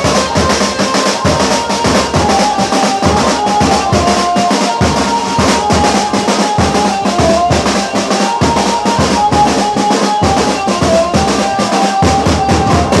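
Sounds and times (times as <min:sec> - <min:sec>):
sliding melody line: 0:00.0 - 0:13.0.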